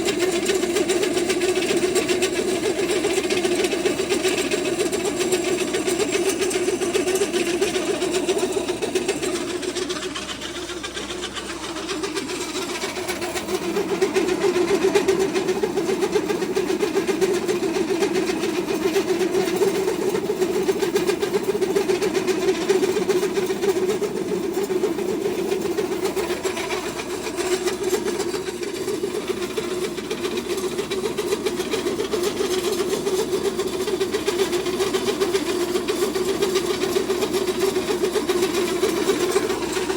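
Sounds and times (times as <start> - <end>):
feed mill humming and rattling: 0.0 - 39.9.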